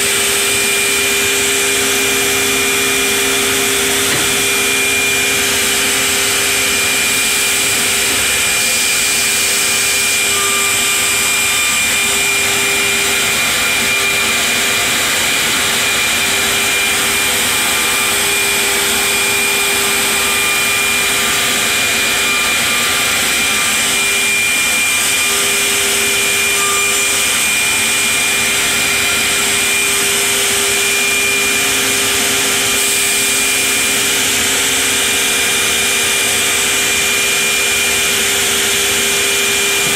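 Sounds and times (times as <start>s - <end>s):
router machine whine: 0.0s - 39.9s.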